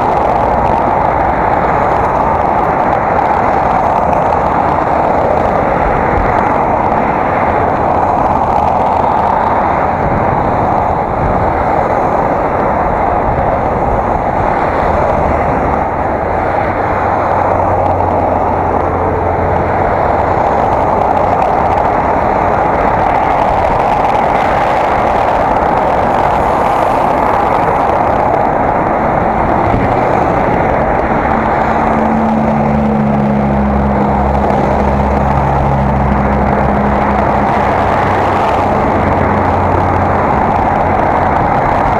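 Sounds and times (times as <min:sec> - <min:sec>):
bicycle riding rushing noise: 0:00.0 - 0:41.9
traffic engine hum: 0:00.0 - 0:41.9.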